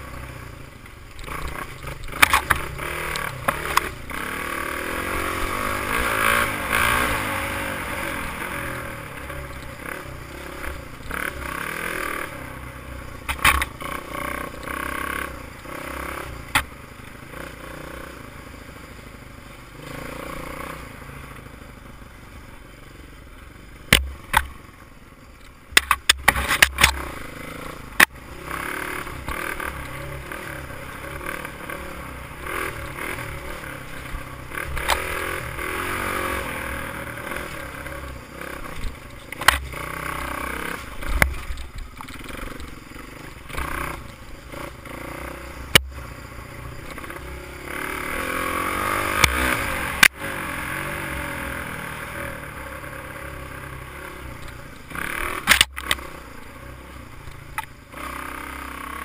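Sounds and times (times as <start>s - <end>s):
dirt bike engine revving: 1.1s - 18.8s, 19.6s - 21.6s, 25.7s - 59.0s.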